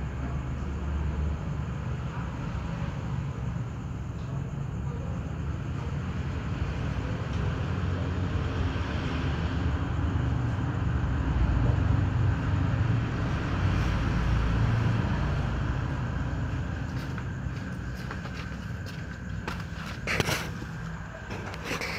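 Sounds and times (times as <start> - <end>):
passing motor vehicle rumble: 0.0 - 21.9.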